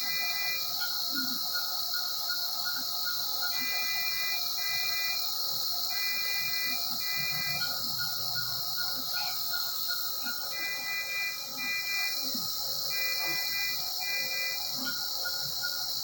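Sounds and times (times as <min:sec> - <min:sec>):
electronic alarm beeps: 0:00.0 - 0:01.4, 0:02.6 - 0:05.2, 0:05.9 - 0:16.0.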